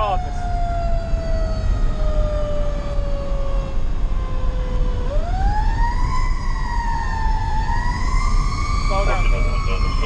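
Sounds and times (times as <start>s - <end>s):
engine and road rumble: 0.0s - 10.0s
fire engine siren: 0.0s - 10.0s.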